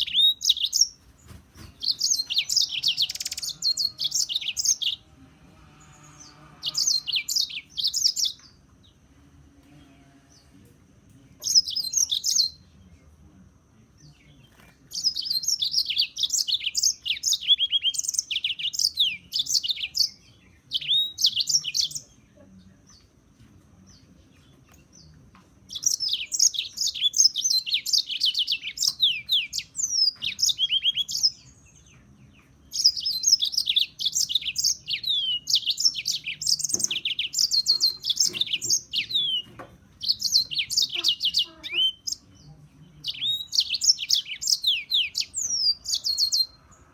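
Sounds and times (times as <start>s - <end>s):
bird twittering and trilling: 0.0s - 9.0s, 11.3s - 13.1s, 14.0s - 23.2s, 23.8s - 46.9s.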